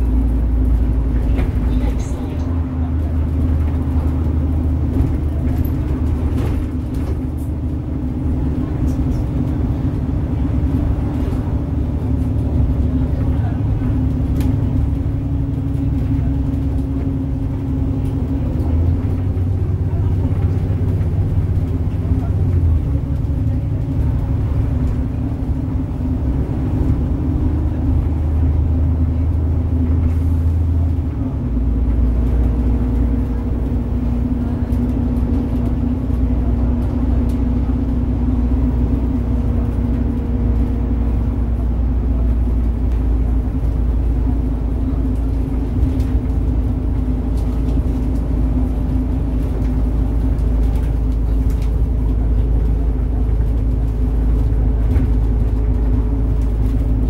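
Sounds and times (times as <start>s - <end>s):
bus engine and road drone: 0.0s - 57.0s.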